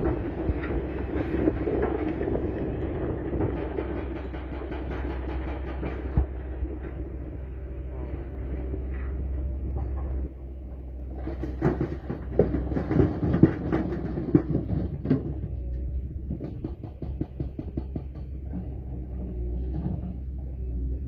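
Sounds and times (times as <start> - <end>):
machine knocks and clanks: 0.0 - 20.6
excavator engine running: 0.0 - 21.0.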